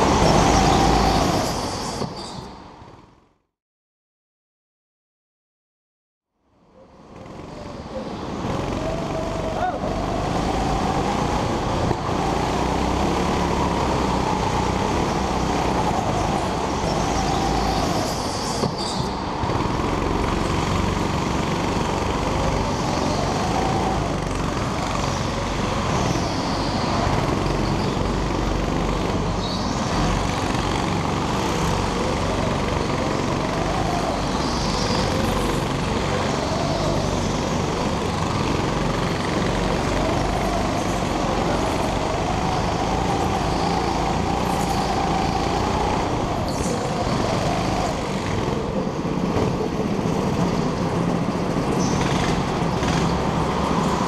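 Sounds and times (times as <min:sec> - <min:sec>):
go-kart engine: 0:00.0 - 0:03.2, 0:06.5 - 0:54.0.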